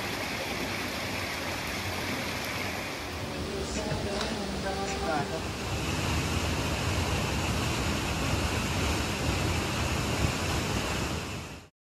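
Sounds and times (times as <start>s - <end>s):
stream rushing over rocks: 0.0s - 11.7s.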